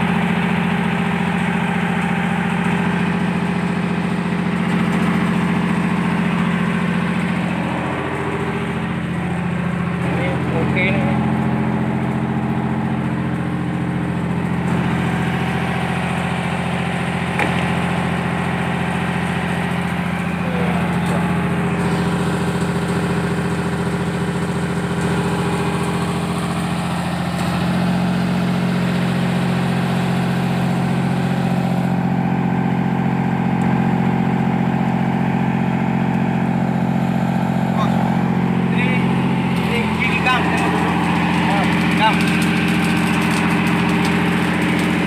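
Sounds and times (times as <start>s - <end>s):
engine idling: 0.0s - 45.0s.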